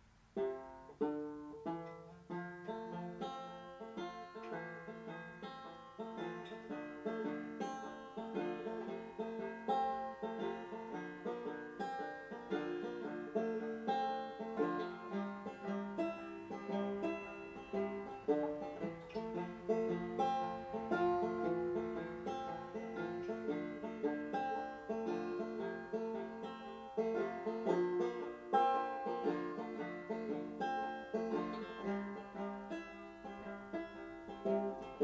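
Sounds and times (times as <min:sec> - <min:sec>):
plucked string instrument: 0:00.0 - 0:35.0.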